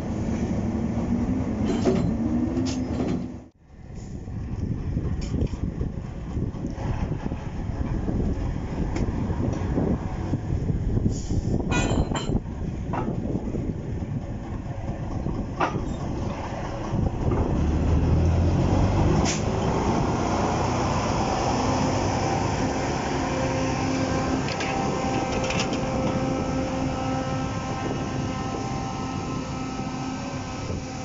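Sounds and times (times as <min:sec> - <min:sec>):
diesel locomotive engine running: 0:00.0 - 0:31.0.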